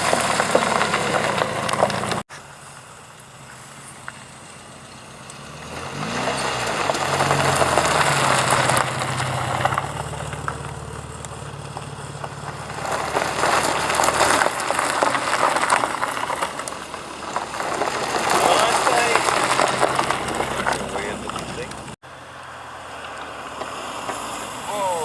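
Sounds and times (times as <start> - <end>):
car engine revving: 0.0 - 2.3, 2.9 - 25.0
rough noisy rush: 0.0 - 2.6, 5.4 - 25.0.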